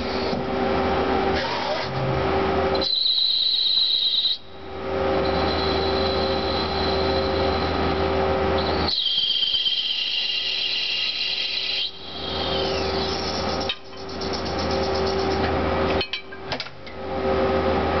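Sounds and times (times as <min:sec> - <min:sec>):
high-pitched cutting whine: 0:00.0 - 0:16.0
machine hum: 0:00.0 - 0:18.0.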